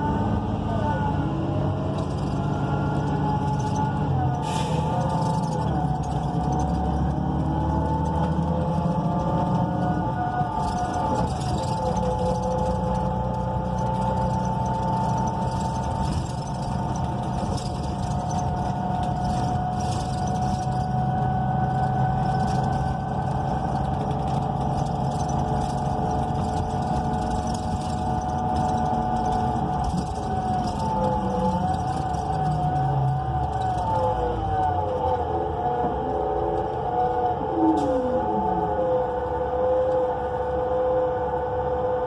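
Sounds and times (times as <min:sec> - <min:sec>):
bus engine low hum: 0:00.0 - 0:42.0
transmission whine: 0:00.0 - 0:42.0.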